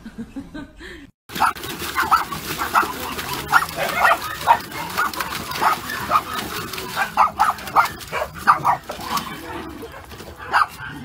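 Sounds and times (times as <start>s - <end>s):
dogs barking in high yips: 1.3s - 11.0s.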